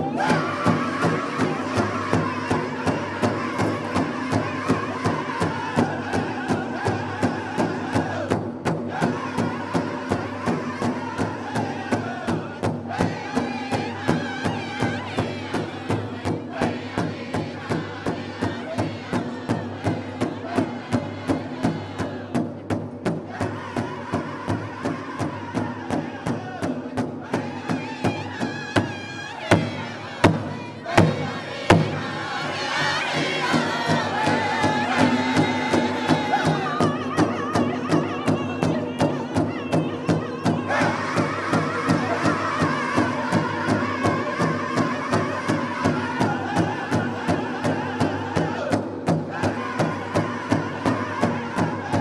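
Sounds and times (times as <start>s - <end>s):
large drum beating steadily: 0.0s - 52.0s
men and women singing in chorus: 0.0s - 52.0s.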